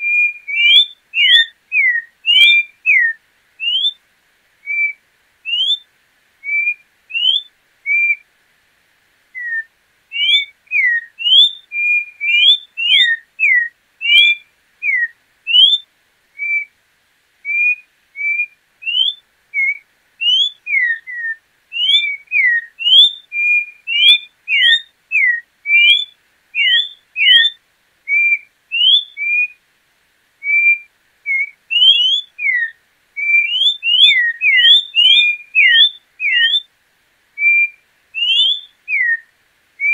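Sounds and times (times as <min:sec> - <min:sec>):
bird whistling song: 0:00.0 - 0:04.0, 0:04.6 - 0:08.3, 0:09.3 - 0:16.7, 0:17.4 - 0:29.6, 0:30.4 - 0:36.7, 0:37.4 - 0:39.9.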